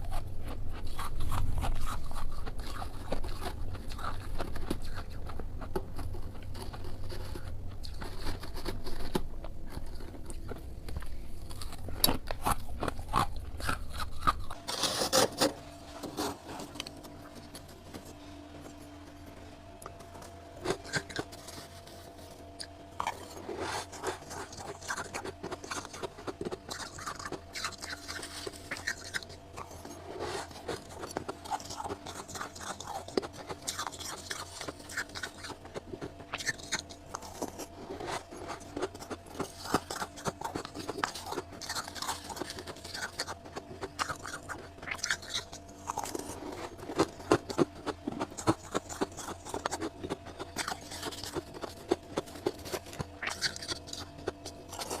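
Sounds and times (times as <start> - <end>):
chewing crunchy frost: 0.0 - 55.0.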